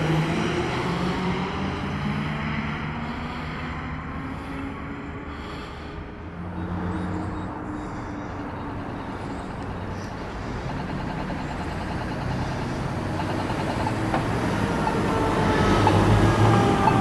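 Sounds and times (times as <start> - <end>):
heavy engine and road noise: 0.0 - 17.0.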